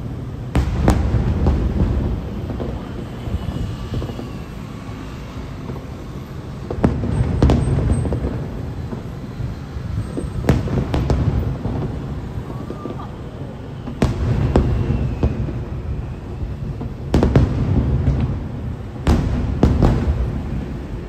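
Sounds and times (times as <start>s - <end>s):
firework booms: 0.0s - 21.0s
firework cracks: 0.0s - 21.0s.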